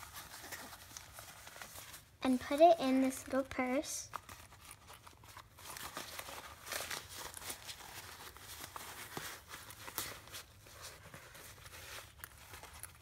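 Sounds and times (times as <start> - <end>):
cloth rustling and crinkling: 0.0 - 13.0.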